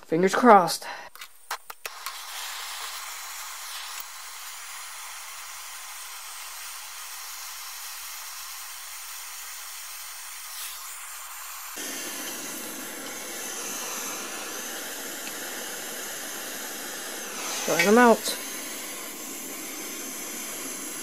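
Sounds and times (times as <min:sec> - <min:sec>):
gas torch hissing: 0:01.8 - 0:21.0.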